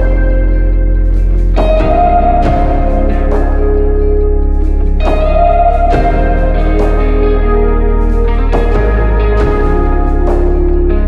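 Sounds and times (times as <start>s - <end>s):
steady low bass: 0.0s - 11.0s
sustained guitar notes: 0.0s - 11.0s.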